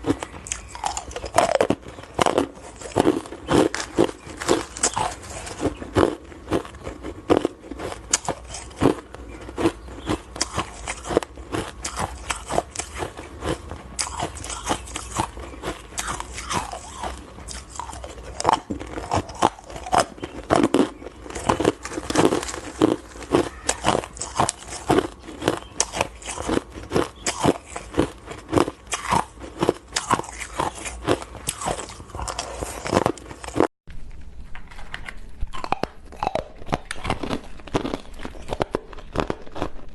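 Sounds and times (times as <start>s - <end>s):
ice crunching being chewed: 0.0s - 33.7s, 35.5s - 39.9s.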